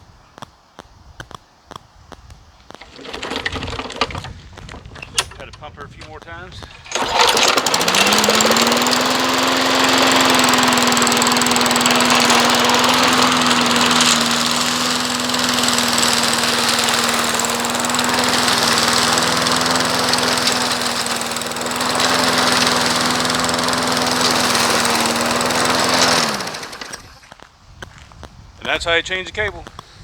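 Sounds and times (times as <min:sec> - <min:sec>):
lawn mower engine running: 0:02.2 - 0:30.0.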